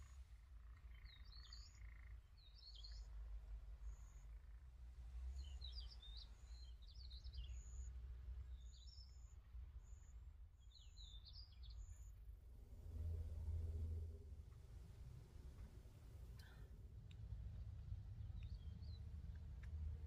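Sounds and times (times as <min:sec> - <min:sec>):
small birds chirping: 0:00.0 - 0:12.2, 0:15.6 - 0:20.0
low outdoor rumble: 0:00.0 - 0:20.0.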